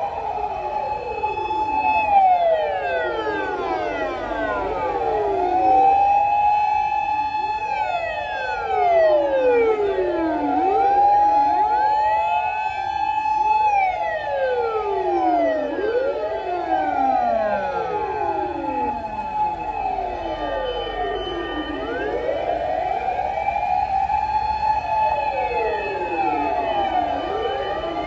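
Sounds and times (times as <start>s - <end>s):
fire engine sirens wailing: 0.0s - 28.0s.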